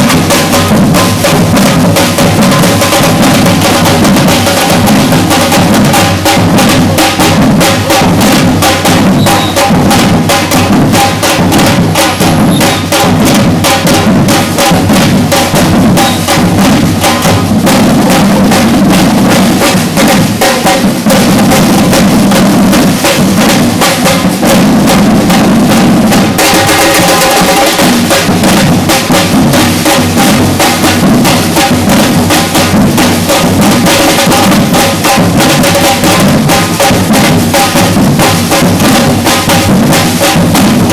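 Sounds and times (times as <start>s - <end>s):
drum ensemble playing: 0.0s - 40.9s.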